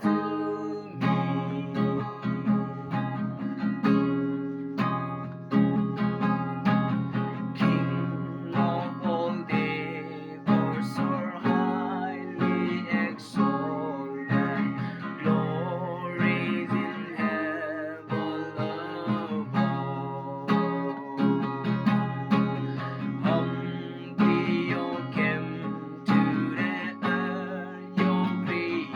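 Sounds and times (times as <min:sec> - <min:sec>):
strummed acoustic guitar: 0:00.0 - 0:28.9.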